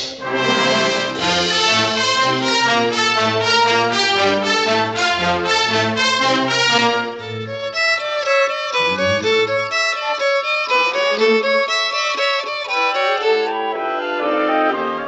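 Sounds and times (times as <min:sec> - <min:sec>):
orchestral cartoon music: 0:00.0 - 0:15.0
violin melody: 0:00.0 - 0:15.0.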